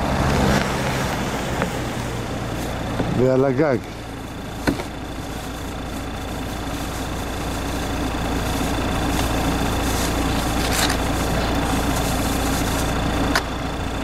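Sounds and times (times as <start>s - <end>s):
car engine idling: 0.0s - 14.0s
brush sweeping snow: 0.9s - 3.0s, 3.8s - 13.3s.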